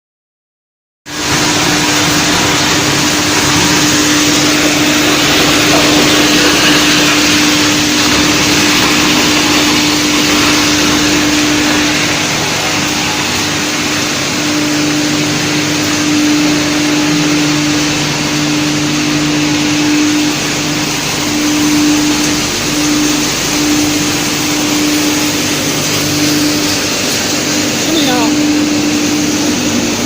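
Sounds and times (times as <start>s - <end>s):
wood chipper whirring: 1.1s - 30.0s.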